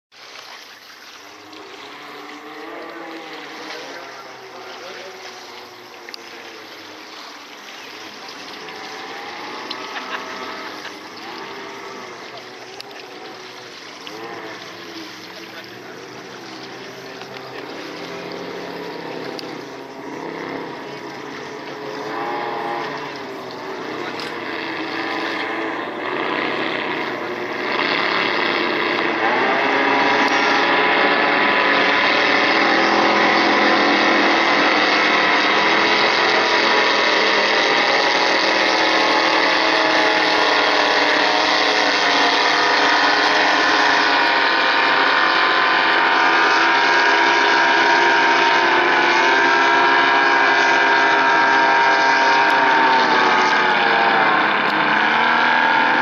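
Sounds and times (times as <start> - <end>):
racing speedboat engines: 0.2 - 56.0.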